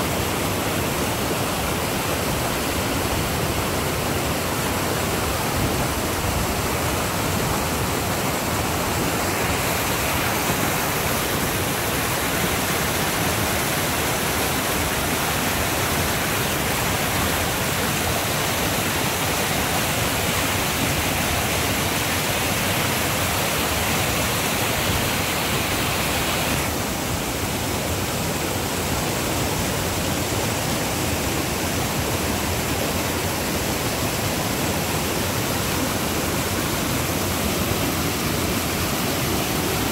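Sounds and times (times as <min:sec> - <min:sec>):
creek rushing through rapids: 0:00.0 - 0:39.9.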